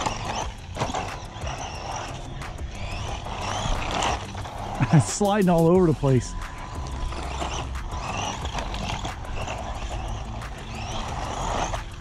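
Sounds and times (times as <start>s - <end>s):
electric motor whining: 0.0s - 12.0s
tyres scrabbling on dirt: 0.0s - 12.0s.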